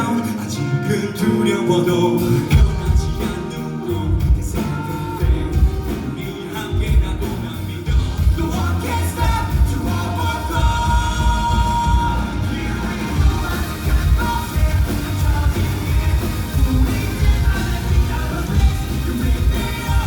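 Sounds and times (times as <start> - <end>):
live pop-rock band playing: 0.0 - 20.0.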